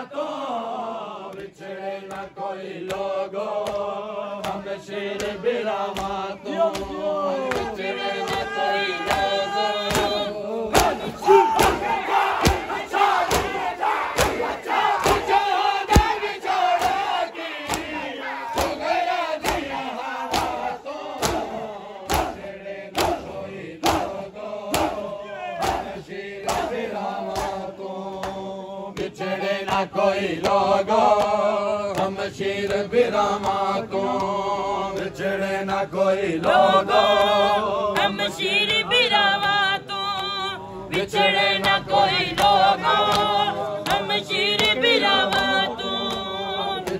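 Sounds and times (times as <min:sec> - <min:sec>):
crowd chanting: 0:00.0 - 0:46.9
hands slapping chests in unison: 0:01.2 - 0:46.9.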